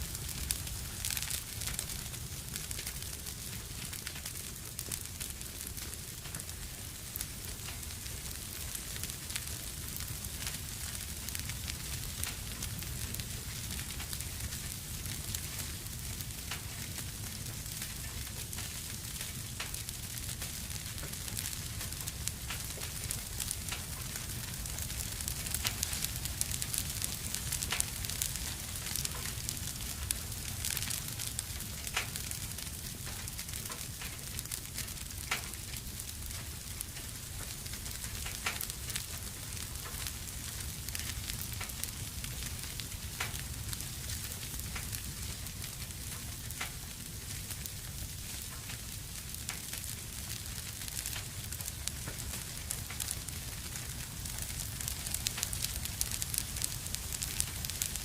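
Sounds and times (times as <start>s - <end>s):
fire crackling in fireplace: 0.0s - 58.0s
fire pops: 0.1s - 58.0s.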